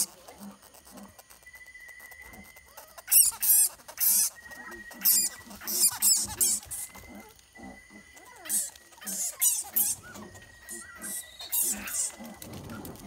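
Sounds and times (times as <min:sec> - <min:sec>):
bat squeaky chatter: 0:00.0 - 0:13.0.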